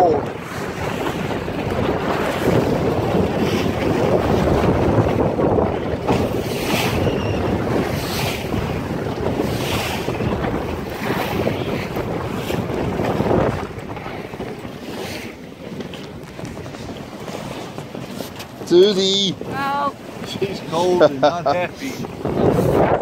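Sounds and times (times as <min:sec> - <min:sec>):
water splashing along hull: 0:00.0 - 0:23.0
wind buffeting microphone: 0:00.0 - 0:23.0.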